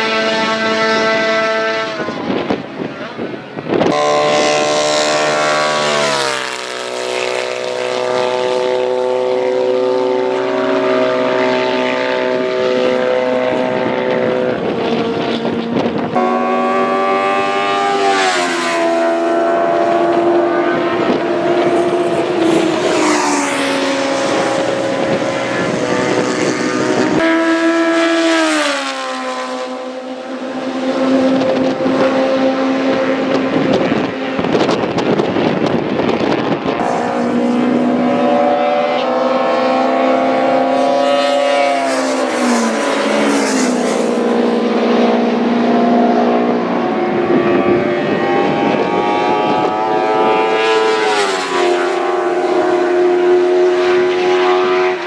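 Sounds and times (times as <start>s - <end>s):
racing engines passing at high revs: 0.0s - 55.0s.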